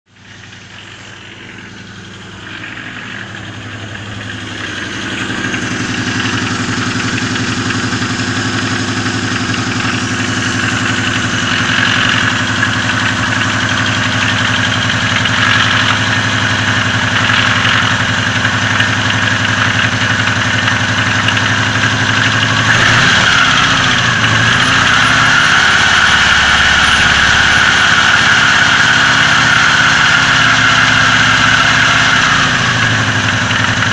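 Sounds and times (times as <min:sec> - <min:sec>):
engine idling with a knock: 0:00.1 - 0:28.4, 0:30.5 - 0:33.9.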